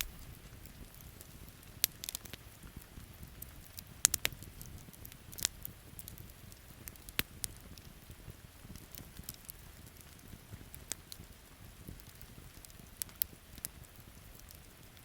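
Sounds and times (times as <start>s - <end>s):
campfire crackling and popping: 0.0s - 15.0s
rain pattering: 0.0s - 15.0s.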